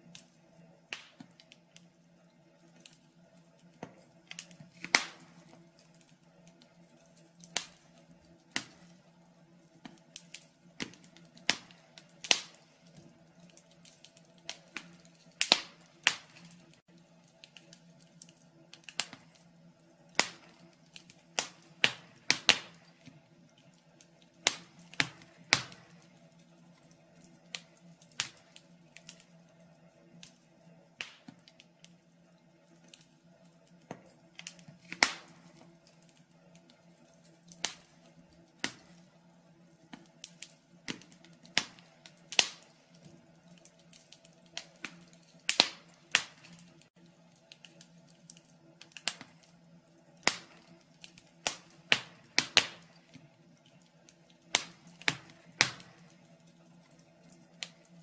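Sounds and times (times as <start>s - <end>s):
faint steady hum: 0.0s - 58.0s
wood fire crackling and popping: 0.0s - 58.0s.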